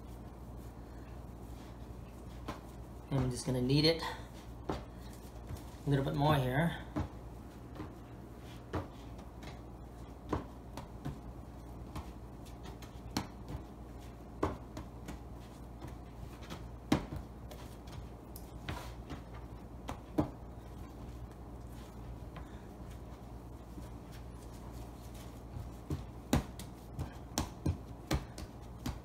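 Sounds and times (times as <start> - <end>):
low steady hum: 0.0 - 29.0
dough thudding and slapping: 2.2 - 29.0.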